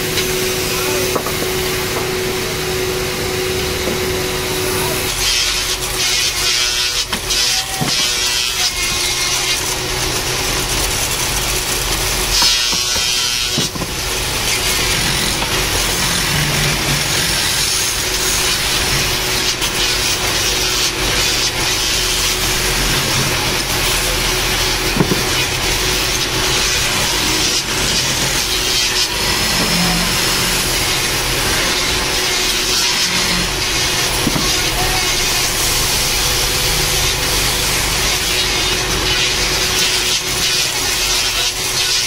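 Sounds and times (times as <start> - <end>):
lathe motor hum: 0.0 - 41.8
chisel scraping spinning wood: 5.1 - 42.0.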